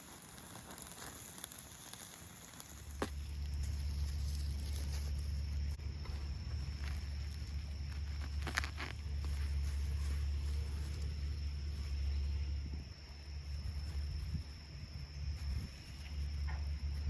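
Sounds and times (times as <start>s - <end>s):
insects chirring: 0.0s - 17.0s
low rumble: 3.1s - 17.0s.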